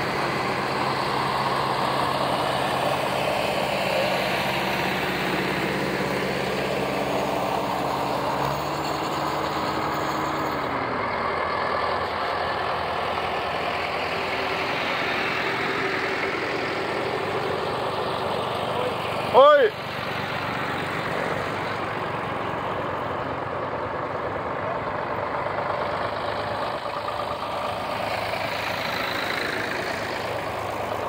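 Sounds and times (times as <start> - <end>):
tractors driving past: 0.0 - 31.0.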